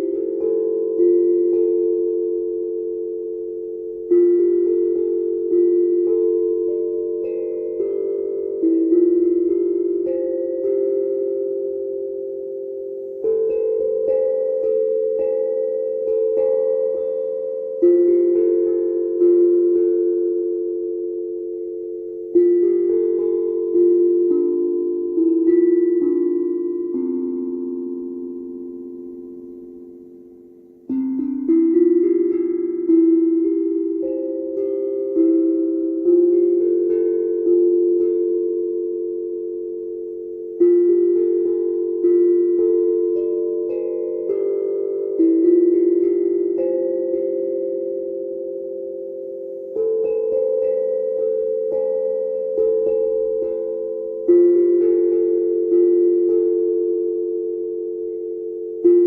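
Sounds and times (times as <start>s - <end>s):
steel tongue drum notes ringing: 0.0s - 59.0s.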